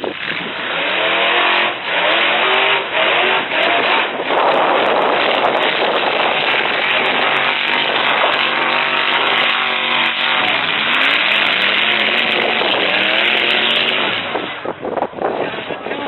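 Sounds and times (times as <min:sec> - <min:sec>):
truck engines revving loudly: 0:00.0 - 0:16.0.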